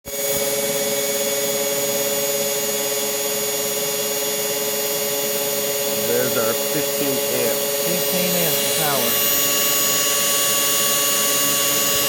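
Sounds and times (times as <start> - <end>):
electric motor whine: 0.1 - 12.0.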